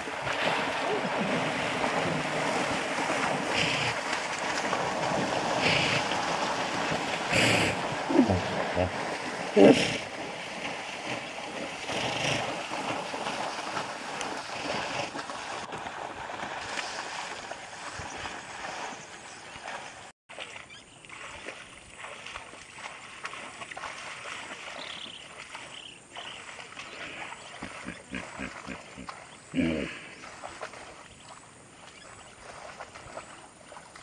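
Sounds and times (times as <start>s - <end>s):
water splashing and churning: 0.0s - 34.0s.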